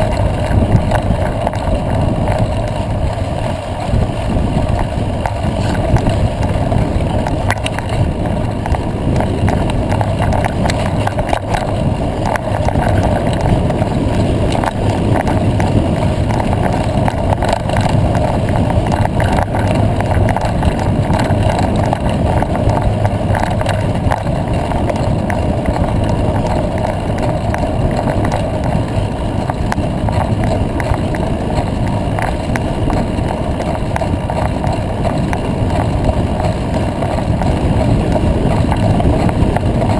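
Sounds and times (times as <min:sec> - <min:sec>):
bike rattles and clicks: 0:00.0 - 0:39.9
tyres humming on dirt: 0:00.0 - 0:39.9
wind buffeting microphone: 0:00.0 - 0:39.9.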